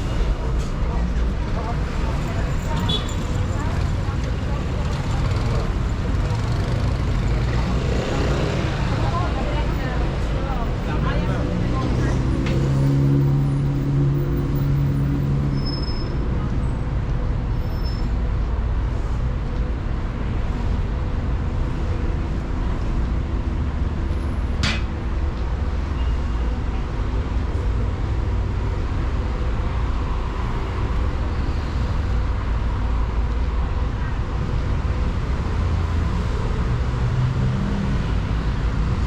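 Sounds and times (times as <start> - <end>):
large vehicle engine hum: 0.0 - 39.0
traffic rumble: 0.0 - 39.0.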